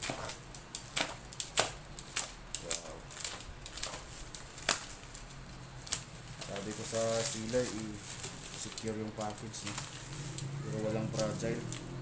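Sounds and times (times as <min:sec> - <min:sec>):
packaging crackling: 0:00.0 - 0:12.0.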